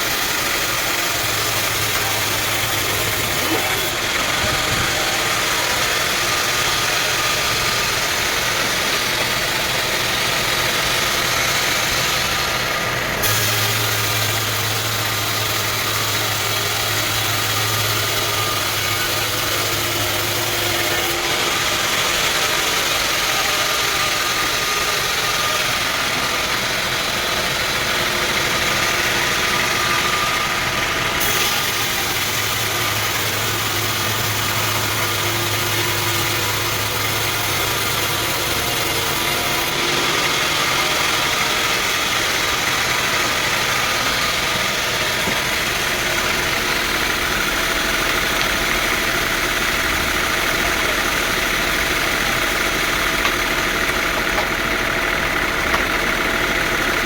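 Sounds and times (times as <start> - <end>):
sawmill saw running: 0.0 - 57.0.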